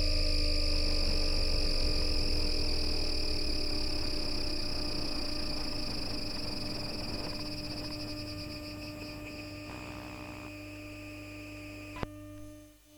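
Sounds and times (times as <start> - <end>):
tram electrical whine: 0.0 - 11.0.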